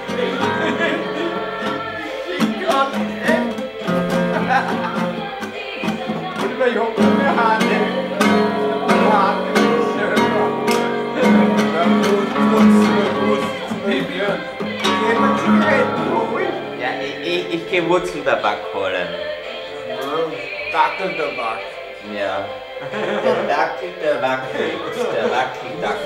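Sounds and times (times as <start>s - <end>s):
acoustic guitar strumming: 0.0s - 21.6s
voices singing along: 0.0s - 26.0s.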